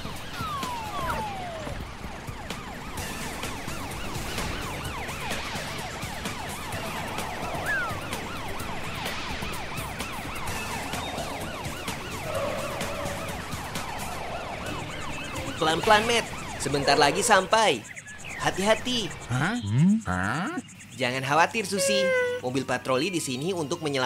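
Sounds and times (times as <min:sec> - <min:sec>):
emergency sirens yelping: 0:00.0 - 0:22.7.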